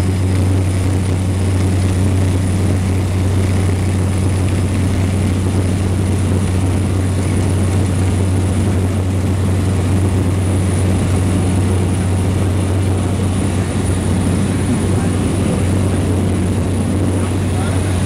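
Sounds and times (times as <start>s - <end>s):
propeller engine drone: 0.0s - 18.0s
thin high engine whine: 0.0s - 18.0s.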